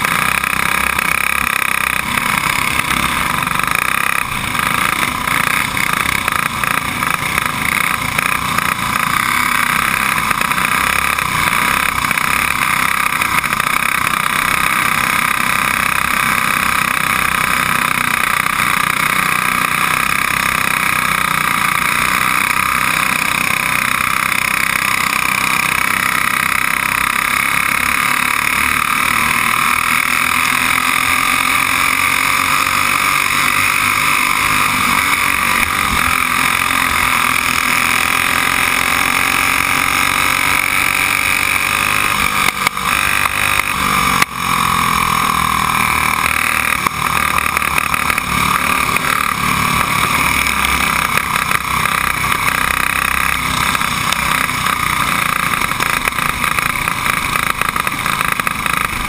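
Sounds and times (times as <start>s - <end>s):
kart engine running hard: 0.0s - 59.0s
other karts running nearby: 0.0s - 59.0s.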